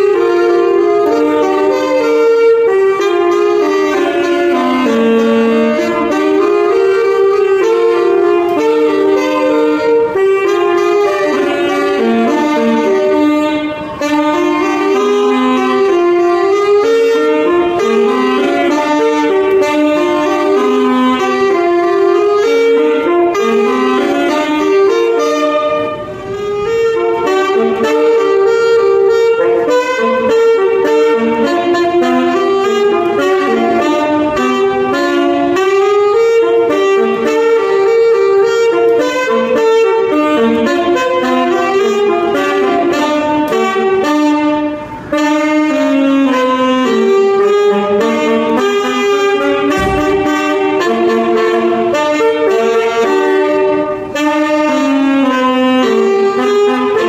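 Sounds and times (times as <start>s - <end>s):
saxophones playing in harmony: 0.0s - 57.0s.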